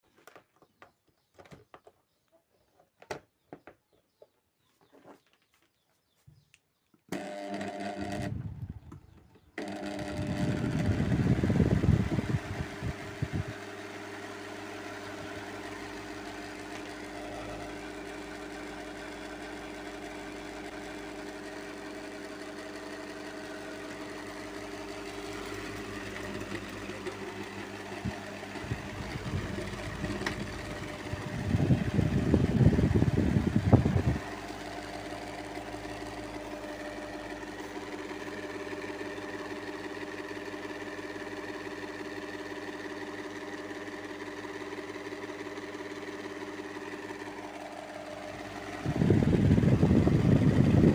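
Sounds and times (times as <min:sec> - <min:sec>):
fan motor humming: 0:07.1 - 0:50.9
fan rattling: 0:08.0 - 0:50.9.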